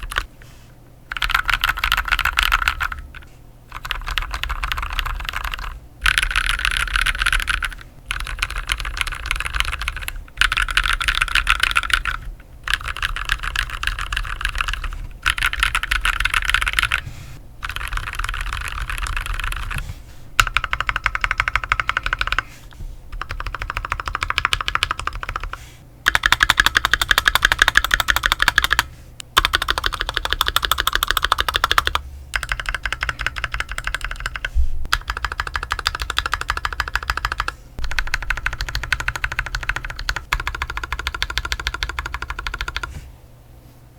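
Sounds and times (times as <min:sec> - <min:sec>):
fast typing on mechanical keyboard: 0:00.0 - 0:00.4, 0:01.1 - 0:19.8, 0:20.4 - 0:22.5, 0:23.1 - 0:42.9.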